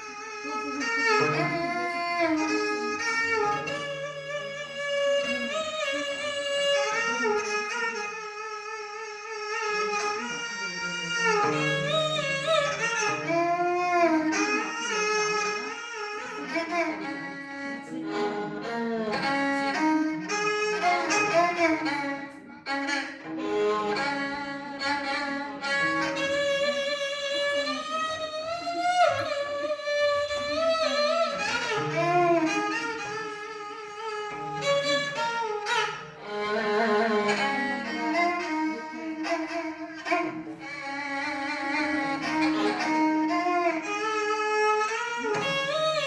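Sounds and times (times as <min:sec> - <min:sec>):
violin melody: 0:00.0 - 0:46.0.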